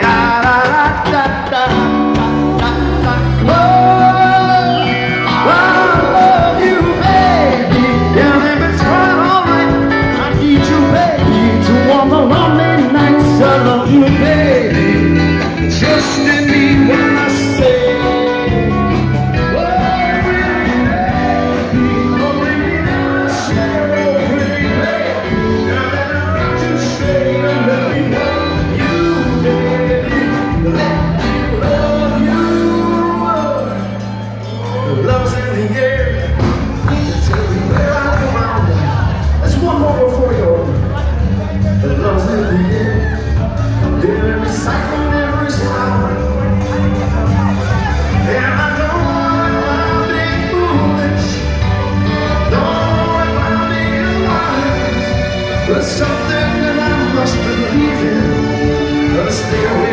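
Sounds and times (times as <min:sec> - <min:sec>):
live rock and roll band: 0:00.0 - 0:59.9
person singing: 0:00.0 - 0:59.9.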